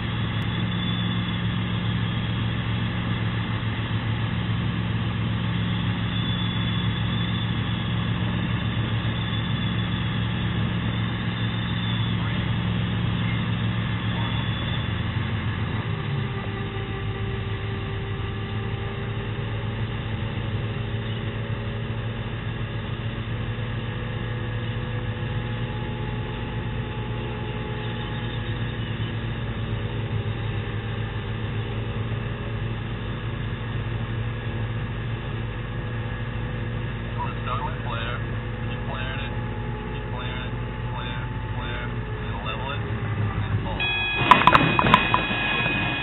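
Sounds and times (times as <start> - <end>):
helicopter rotor and engine hum: 0.0 - 46.0.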